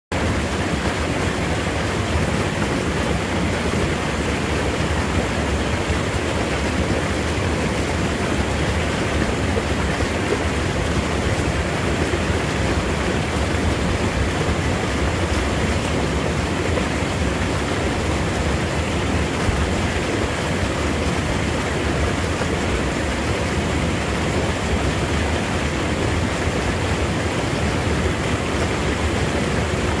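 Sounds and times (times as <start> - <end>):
stream pouring over rocks: 0.1 - 30.0.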